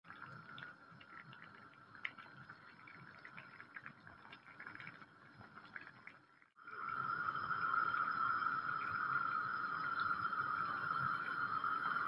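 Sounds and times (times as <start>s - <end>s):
brine boiling with small pops: 0.0s - 12.0s.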